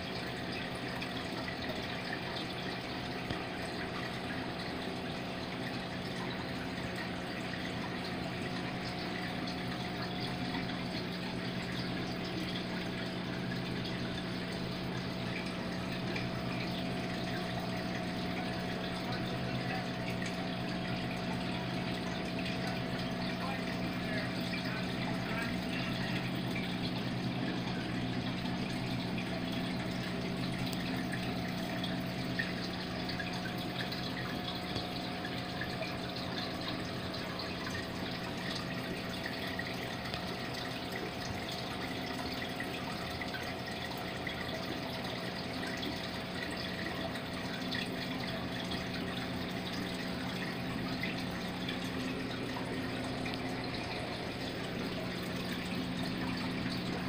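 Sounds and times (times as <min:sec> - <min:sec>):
aquarium pump hum: 0:00.0 - 0:57.0
trickling bubbling water: 0:00.0 - 0:57.0.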